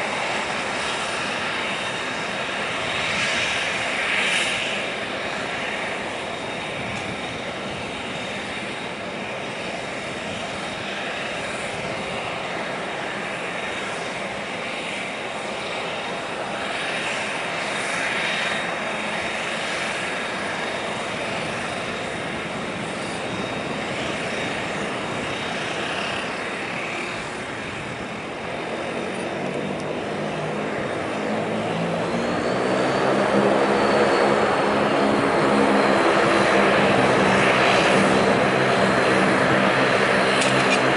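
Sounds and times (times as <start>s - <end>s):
propeller drone: 0.0s - 40.9s
turboprop engines whining: 0.0s - 40.9s.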